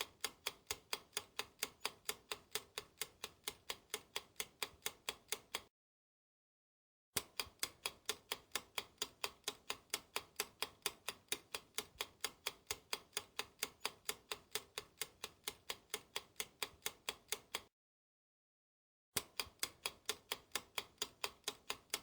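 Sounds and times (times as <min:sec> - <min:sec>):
rapid clock ticking: 0:00.0 - 0:05.6, 0:07.2 - 0:17.7, 0:19.2 - 0:22.0.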